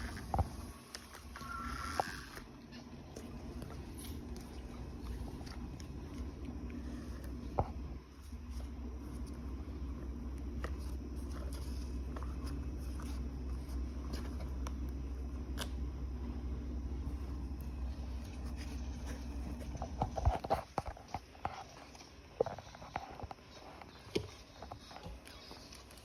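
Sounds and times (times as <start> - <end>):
fan humming: 0.0 - 26.0.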